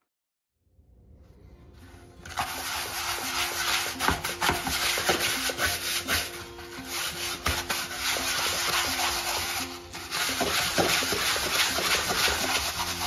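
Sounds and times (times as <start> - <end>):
brush scrubbing rattan: 2.3 - 13.0.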